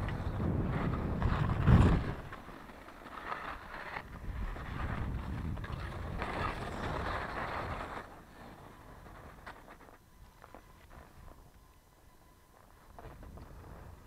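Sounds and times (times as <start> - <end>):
skis scraping over snow: 0.0 - 14.0.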